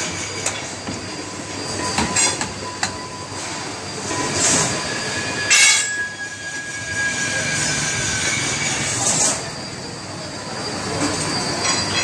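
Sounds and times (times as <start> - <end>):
machine screech: 0.0 - 12.0
threading machine metallic squeal: 0.0 - 12.0.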